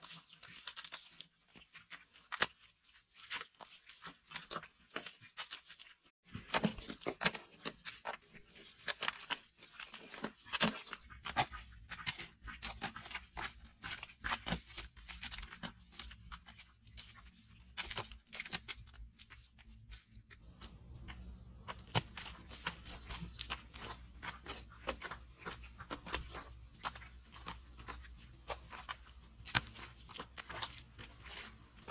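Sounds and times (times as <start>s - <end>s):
hands scraping mud plaster: 0.0s - 31.9s.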